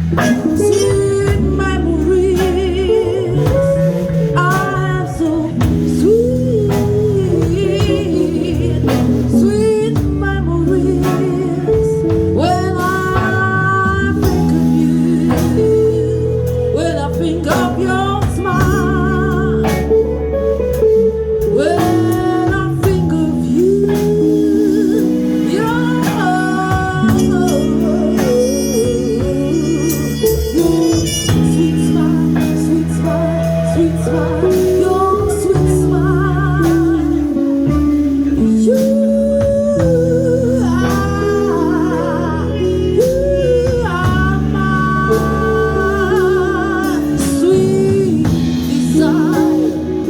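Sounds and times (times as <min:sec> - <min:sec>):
lead melody with vibrato: 0:00.0 - 0:50.0
live band playing slow blues: 0:00.0 - 0:50.0.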